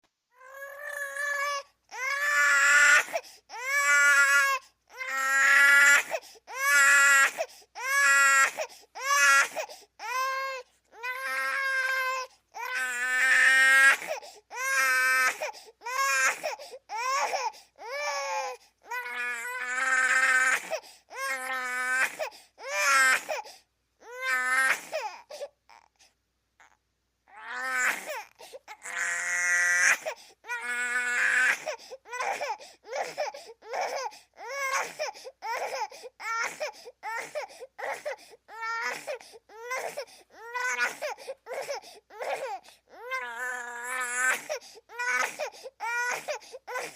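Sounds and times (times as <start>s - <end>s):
baby crying: 0.4s - 25.9s, 26.6s - 46.9s.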